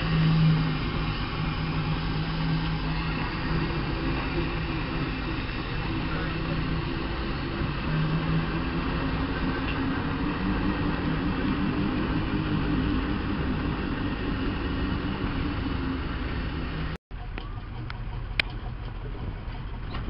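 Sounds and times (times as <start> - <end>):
steam engine running: 0.0 - 20.0.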